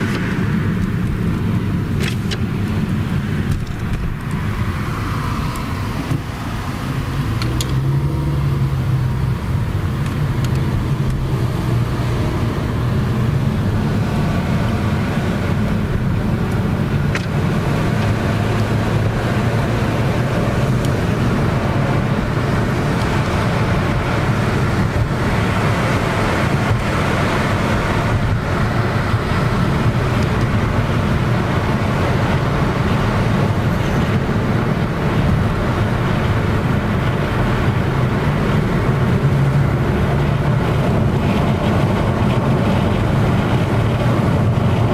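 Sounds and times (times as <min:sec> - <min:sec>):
low rumble of vehicles driving: 0:00.0 - 0:44.9.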